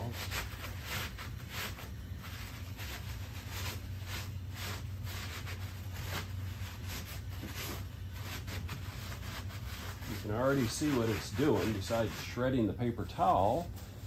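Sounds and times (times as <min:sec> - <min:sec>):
paper towel scuffing on plaster: 0:00.0 - 0:14.0.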